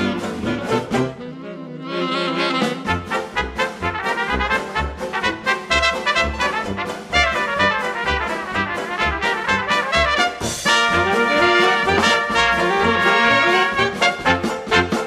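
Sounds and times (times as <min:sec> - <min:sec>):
dance band with brass: 0:00.0 - 0:15.0.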